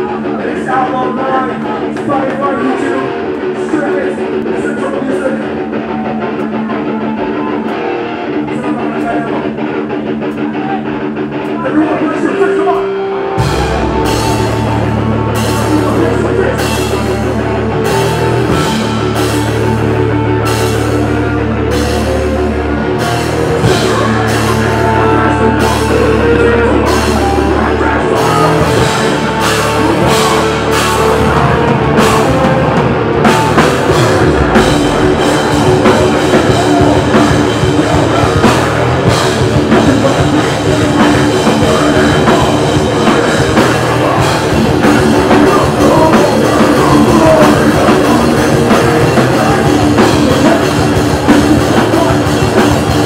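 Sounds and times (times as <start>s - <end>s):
bass guitar: 0.0s - 53.0s
distorted electric guitar: 0.0s - 53.0s
drum kit: 0.0s - 53.0s.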